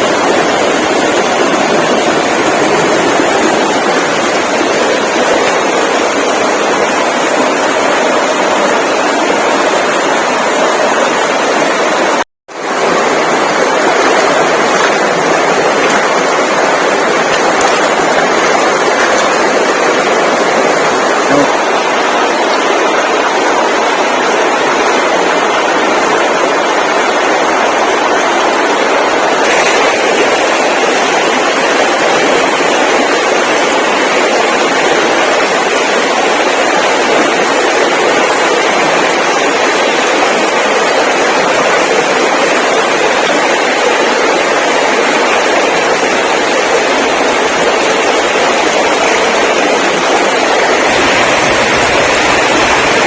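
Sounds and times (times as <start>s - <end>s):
loud steady rushing noise: 0.0s - 37.6s, 45.1s - 53.0s.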